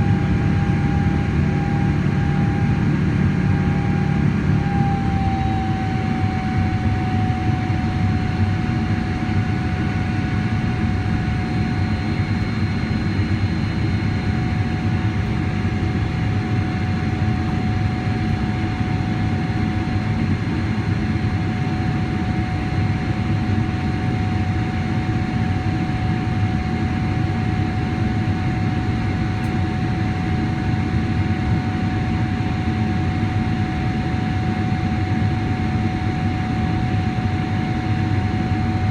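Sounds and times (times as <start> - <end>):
jet engine whine: 0.0 - 38.9.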